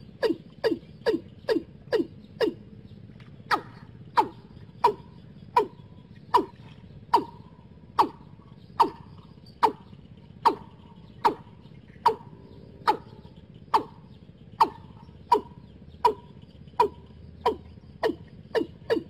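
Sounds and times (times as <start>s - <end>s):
watercock calling: 0.0s - 2.7s, 3.5s - 19.0s.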